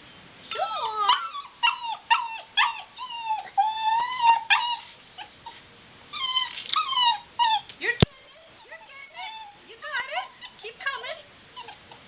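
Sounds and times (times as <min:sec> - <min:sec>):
puppy whimpering and whining: 0:00.5 - 0:12.0.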